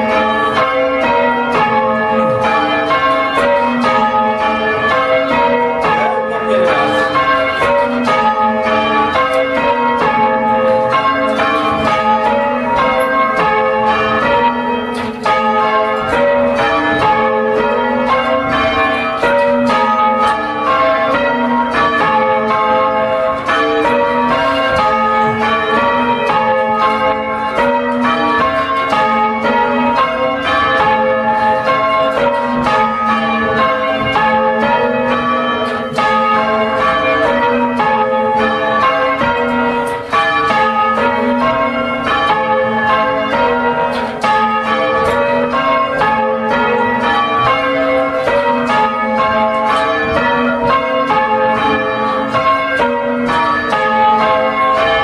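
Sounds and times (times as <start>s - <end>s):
church bells ringing changes: 0.0s - 55.0s.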